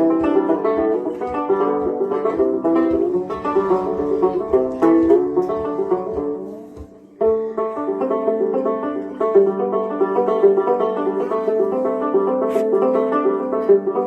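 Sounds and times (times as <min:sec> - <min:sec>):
banjo plucked notes: 0:00.0 - 0:14.0.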